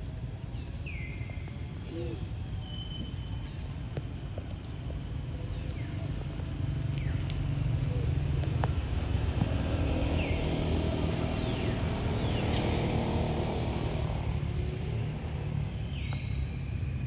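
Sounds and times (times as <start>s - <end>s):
engine rumbling: 3.0s - 17.0s.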